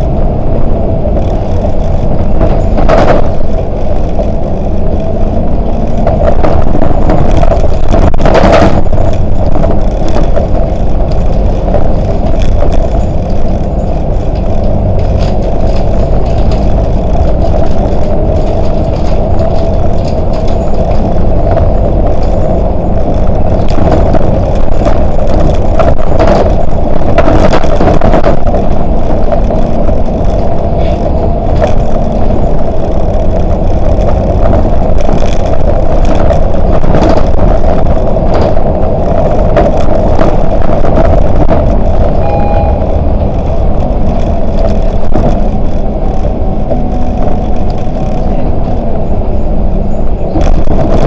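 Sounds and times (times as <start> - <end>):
short rattles and knocks: 0.0 - 42.2, 42.8 - 51.0
bus engine and road noise: 0.0 - 51.0.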